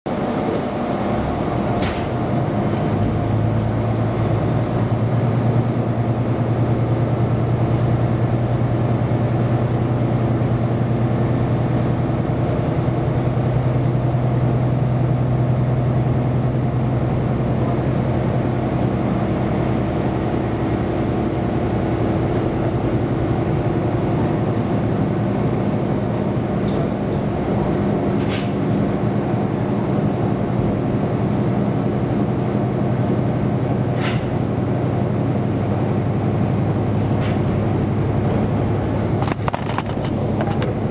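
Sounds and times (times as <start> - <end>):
diesel engine drone: 0.1 - 40.9
rumble of train wheels: 0.1 - 40.9.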